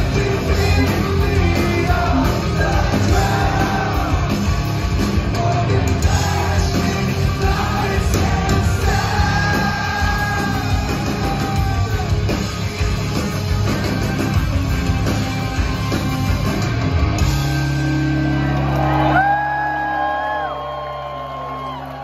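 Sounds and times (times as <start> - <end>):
drumming: 0.0 - 19.2
live rock band playing loudly: 0.0 - 19.6.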